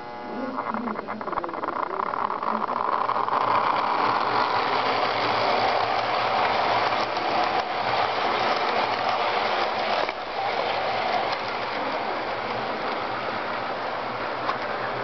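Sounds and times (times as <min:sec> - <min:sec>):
model train motor whir: 0:00.0 - 0:15.0
wheels rolling over rails: 0:00.0 - 0:15.0.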